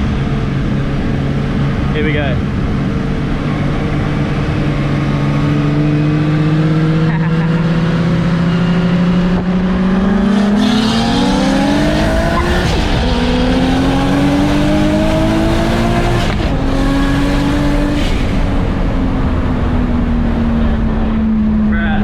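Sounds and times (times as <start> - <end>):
car engine accelerating through gears: 0.0 - 22.0.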